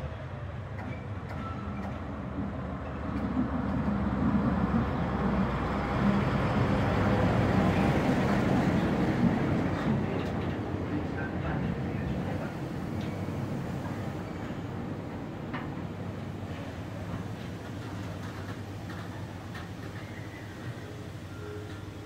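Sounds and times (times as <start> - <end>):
diesel locomotive engine passing: 0.0 - 22.0
rumble of freight wagons: 0.0 - 22.0.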